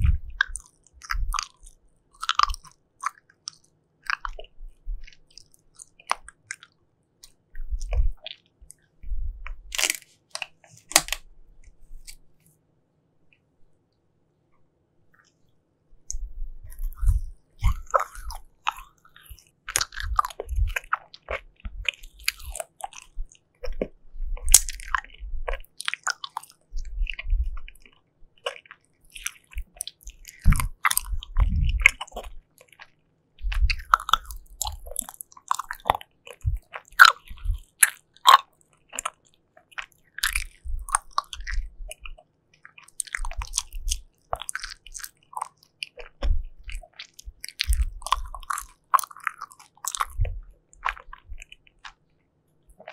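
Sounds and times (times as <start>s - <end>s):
biting and chewing candy: 0.0s - 12.3s, 16.0s - 52.9s.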